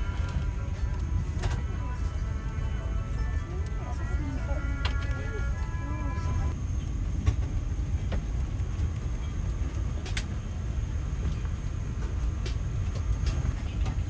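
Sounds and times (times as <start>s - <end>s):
cabin ventilation rumble: 0.0s - 14.0s.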